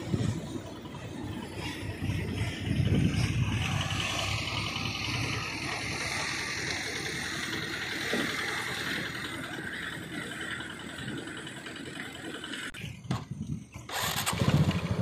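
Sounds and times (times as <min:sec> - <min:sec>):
dump truck engines rumbling: 0:00.0 - 0:15.0
tyre noise on dirt road: 0:00.0 - 0:15.0.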